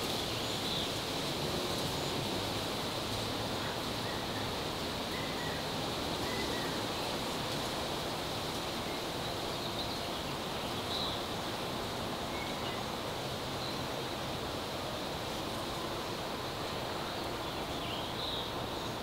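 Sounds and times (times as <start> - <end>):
outdoor ambient hiss: 0.0 - 19.0.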